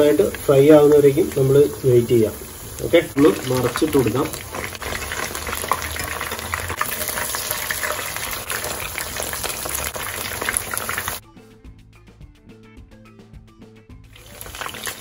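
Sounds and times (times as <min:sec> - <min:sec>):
chicken deep-frying in oil: 0:00.0 - 0:11.2, 0:14.1 - 0:15.0.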